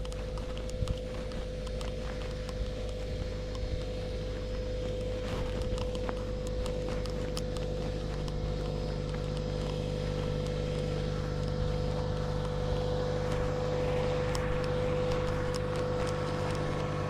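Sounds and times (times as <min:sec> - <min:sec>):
mechanical hum with pitched tone: 0:00.0 - 0:17.0.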